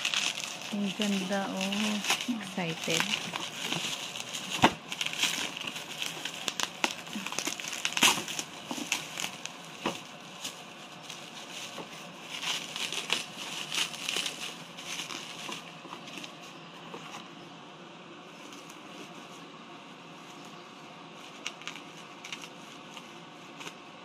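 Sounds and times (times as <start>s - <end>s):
bubble wrap crinkling: 0.0s - 17.4s, 18.2s - 24.0s.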